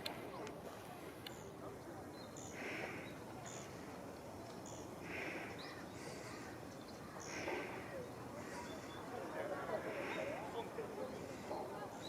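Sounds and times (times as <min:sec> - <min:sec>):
steady background noise: 0:00.0 - 0:12.0
birds chirping: 0:01.3 - 0:12.0.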